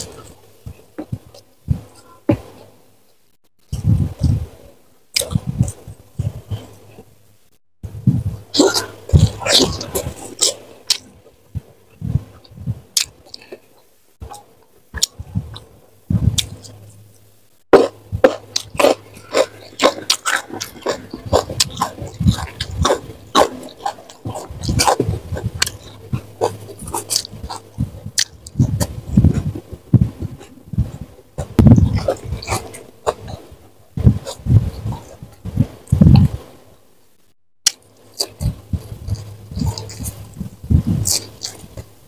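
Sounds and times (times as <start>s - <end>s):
chewing and crunching: 5.1s - 7.0s, 8.3s - 17.2s, 17.8s - 36.5s, 37.7s - 42.0s.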